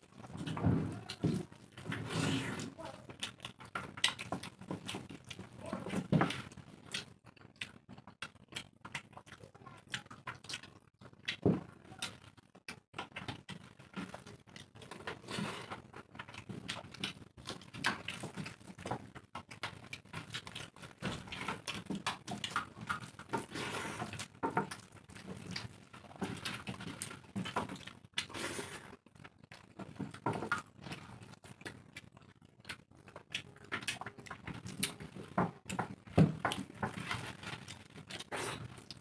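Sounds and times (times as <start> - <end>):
chewing and lip-smacking: 2.8 - 39.0.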